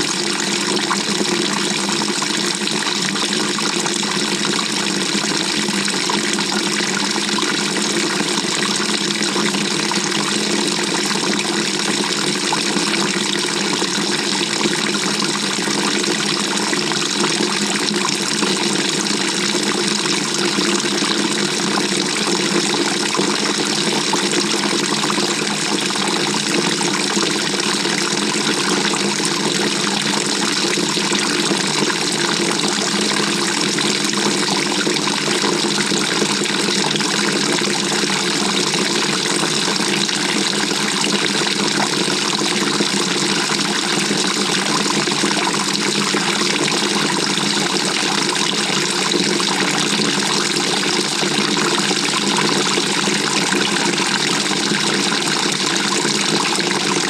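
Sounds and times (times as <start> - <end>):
water running in washing machine: 0.0 - 57.0.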